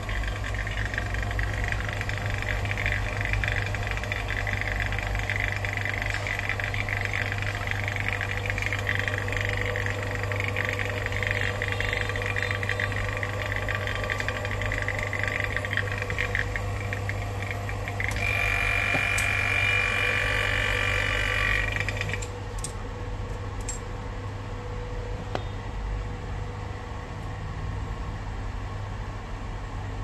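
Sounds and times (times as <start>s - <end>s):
machine humming: 0.0s - 26.4s.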